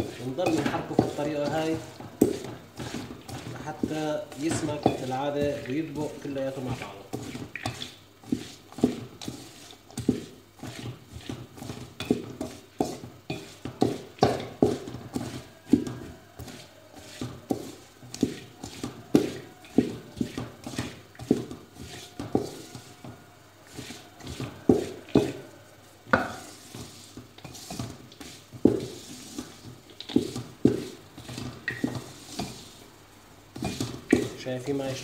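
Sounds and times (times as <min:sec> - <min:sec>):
spatula scraping metal pot: 0:00.0 - 0:32.9, 0:33.5 - 0:35.0
syrup sizzling: 0:00.0 - 0:35.0.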